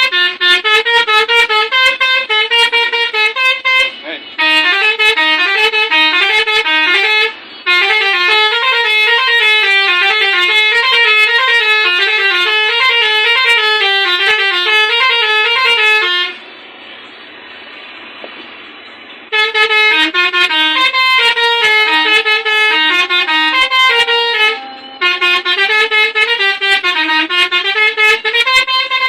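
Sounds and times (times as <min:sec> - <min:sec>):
bus horn playing melody: 0:00.0 - 0:16.5, 0:19.3 - 0:29.0.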